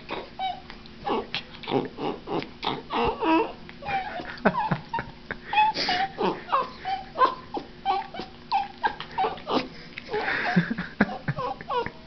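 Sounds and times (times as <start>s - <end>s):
puppy whining: 0.0s - 12.0s.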